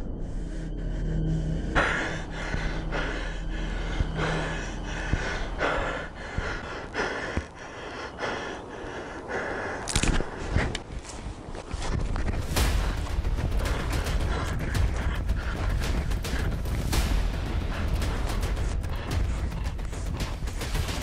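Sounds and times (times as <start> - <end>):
man breathing heavily: 0.0 - 21.0.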